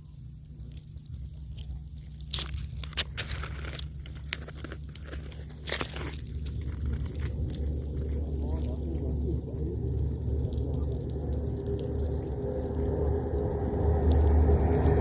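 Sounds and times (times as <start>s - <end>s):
ants crackling and crunching: 0.0s - 15.0s
steady low hum: 0.0s - 15.0s.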